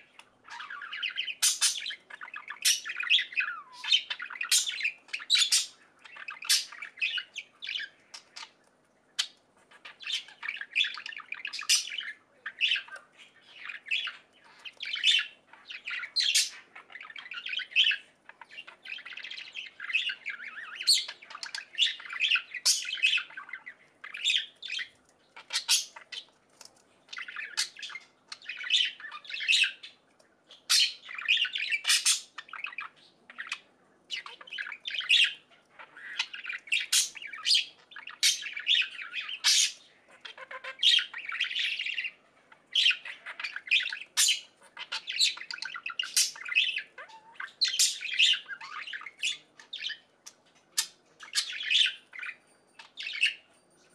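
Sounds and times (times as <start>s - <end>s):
budgerigars chirping and squawking: 0.0s - 53.9s.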